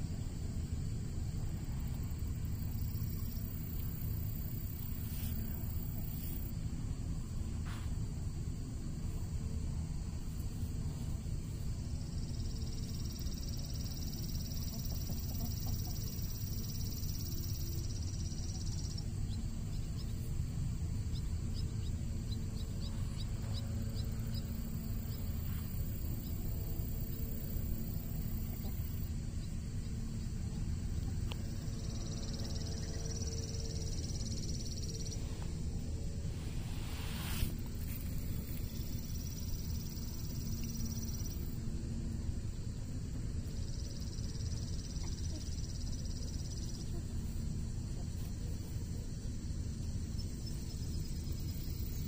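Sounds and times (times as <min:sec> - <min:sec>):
high insect drone: 0:00.0 - 0:52.0.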